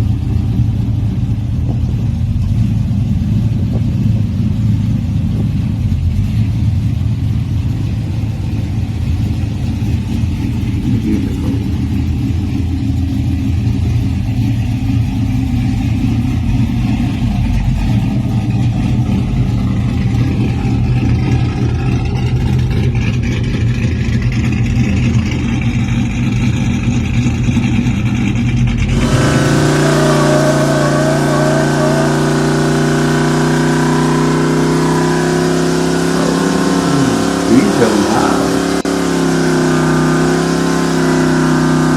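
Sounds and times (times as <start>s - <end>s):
engine drone with hum: 0.0s - 41.9s
pickup truck engines rumbling: 0.0s - 41.9s.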